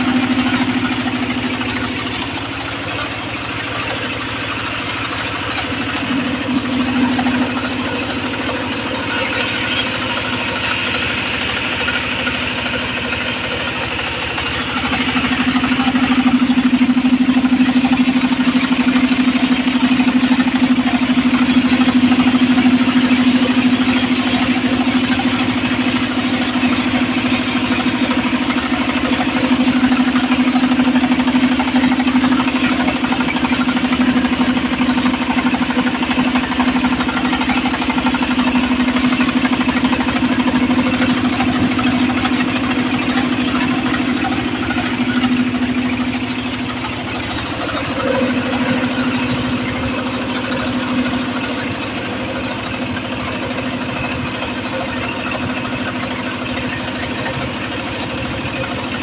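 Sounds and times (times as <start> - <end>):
circular saw running: 0.0 - 59.0.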